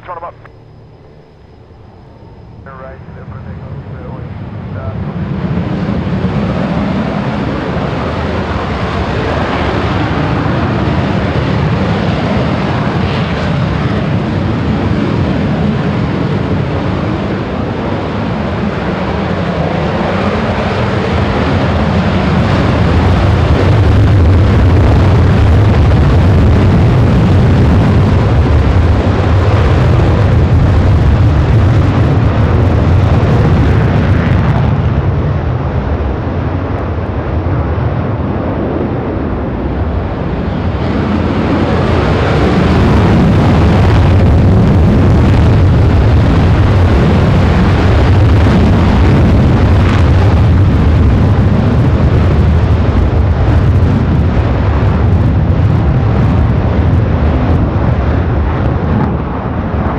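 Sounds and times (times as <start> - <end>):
jets taking off: 0.0 - 59.9.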